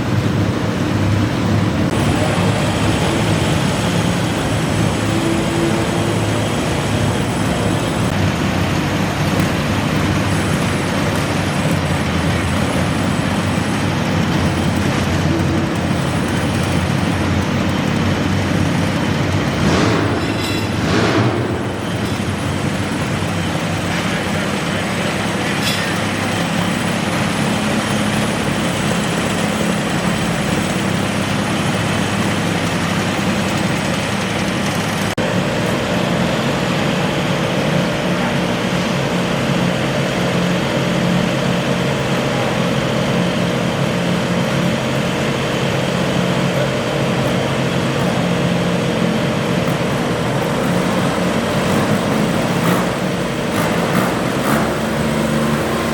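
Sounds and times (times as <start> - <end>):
garden tractor engine running: 0.0 - 55.9.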